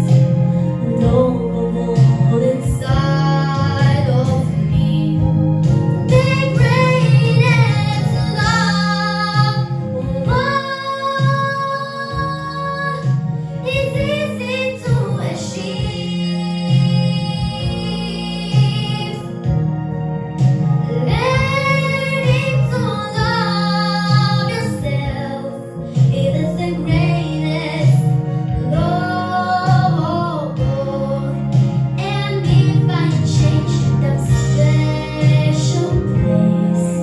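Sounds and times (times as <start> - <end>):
girl singing a slow ballad: 0.0 - 37.0
instrumental backing track: 0.0 - 37.0.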